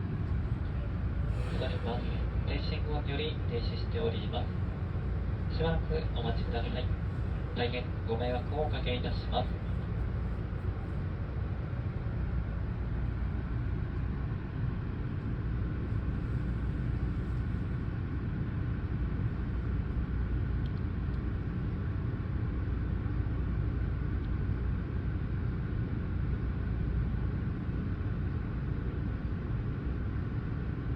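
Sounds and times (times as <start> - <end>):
train carriage equipment hum: 0.0 - 30.9.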